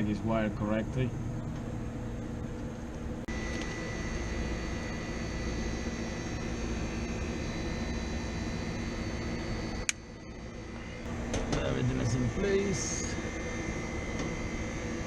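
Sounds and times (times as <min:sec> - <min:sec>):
machinery hum with high whine: 0:00.0 - 0:15.0.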